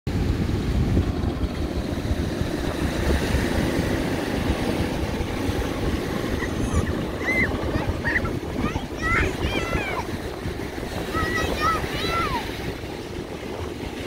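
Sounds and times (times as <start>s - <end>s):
breaking surf: 0.1s - 14.0s
wind buffeting microphone: 0.1s - 14.0s.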